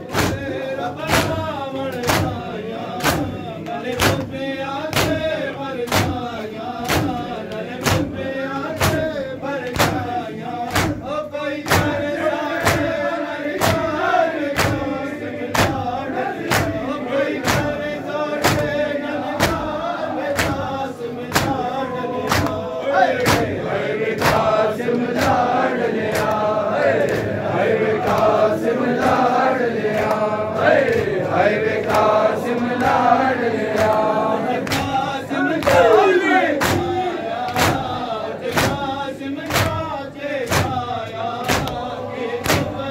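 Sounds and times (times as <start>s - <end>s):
crowd of men chanting: 0.0s - 42.9s
hands slapping chests: 0.0s - 42.9s.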